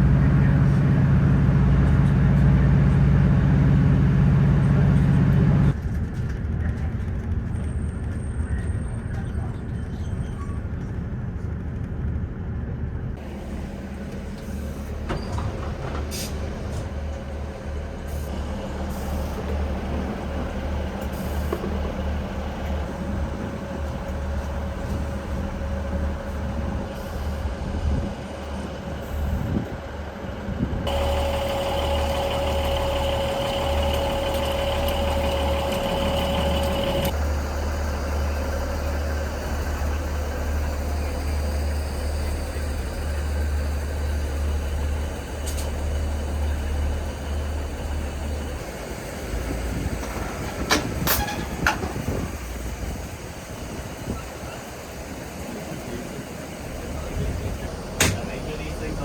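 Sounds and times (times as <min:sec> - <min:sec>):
diesel train engine idling: 0:00.0 - 0:05.8, 0:13.2 - 0:59.0.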